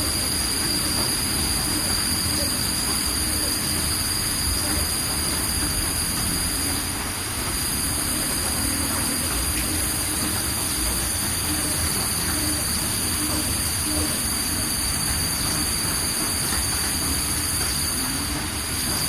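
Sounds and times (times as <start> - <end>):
high-pitched whine: 0.0 - 19.0.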